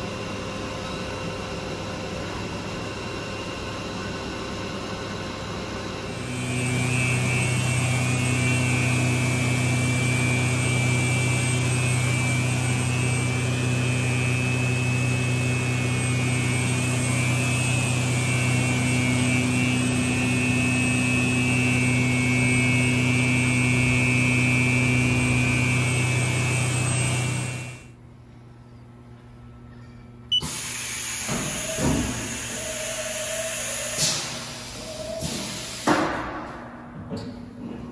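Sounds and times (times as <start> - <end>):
milling machine hum and whine: 0.0 - 35.9.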